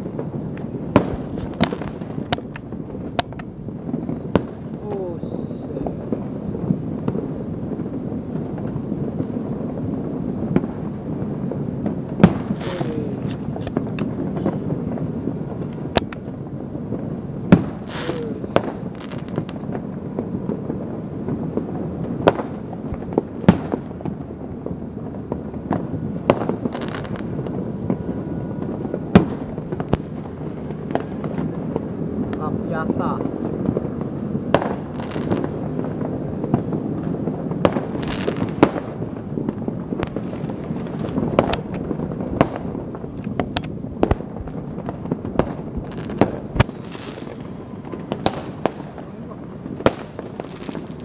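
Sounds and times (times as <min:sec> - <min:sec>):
firecracker bangs: 0:00.0 - 0:51.0
rumble of distant fireworks: 0:00.0 - 0:51.0.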